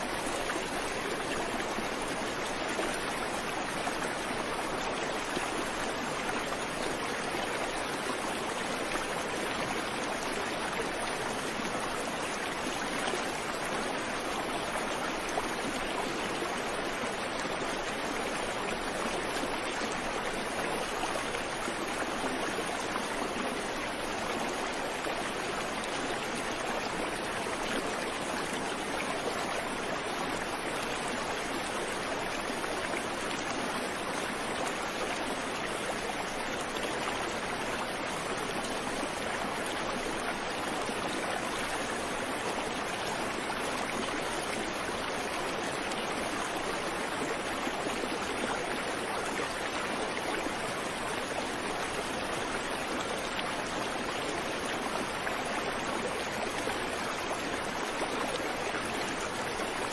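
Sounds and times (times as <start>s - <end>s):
creek water running over rocks: 0.0s - 59.9s.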